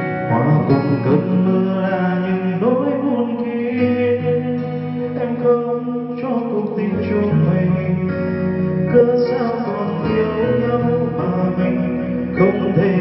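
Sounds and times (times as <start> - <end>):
karaoke backing track: 0.0 - 13.0
man singing karaoke: 0.0 - 13.0.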